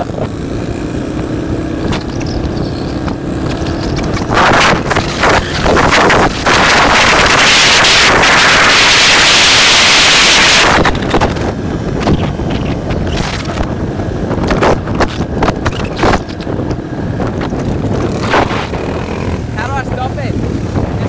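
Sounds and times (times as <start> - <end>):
dirt bike engines running: 0.0 - 21.0
wind blasting microphone: 0.0 - 21.0.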